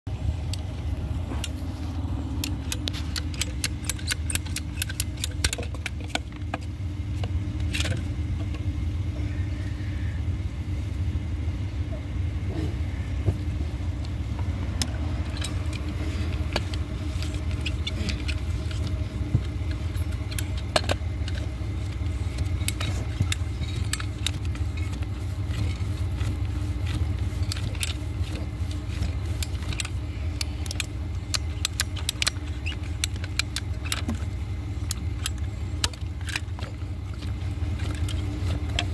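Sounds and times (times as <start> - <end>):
engine idling: 0.1 - 38.9.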